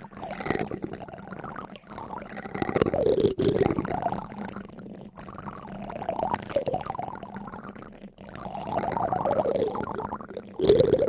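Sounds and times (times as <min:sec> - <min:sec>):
liquid pouring and gurgling: 0:00.0 - 0:11.0.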